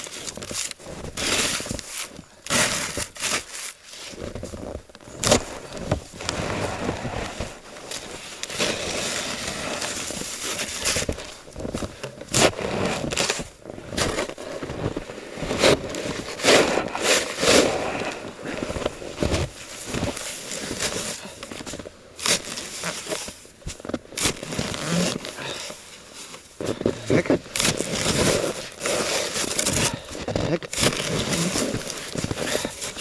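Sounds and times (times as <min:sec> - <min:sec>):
shovel scraping packed snow: 0:00.0 - 0:33.0
snow crunching: 0:00.1 - 0:33.0.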